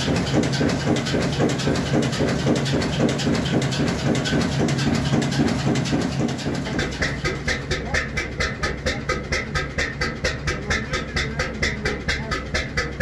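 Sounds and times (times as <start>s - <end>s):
diesel engine clatter and hum: 0.0s - 13.0s
engine exhaust chuffing: 0.0s - 13.0s.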